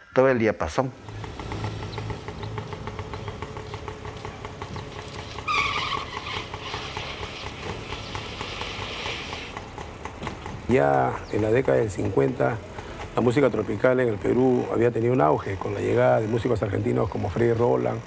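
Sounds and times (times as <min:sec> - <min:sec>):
tyre and traffic noise: 0:00.9 - 0:18.0
car engine running: 0:01.0 - 0:18.0
even ticking: 0:01.0 - 0:18.0.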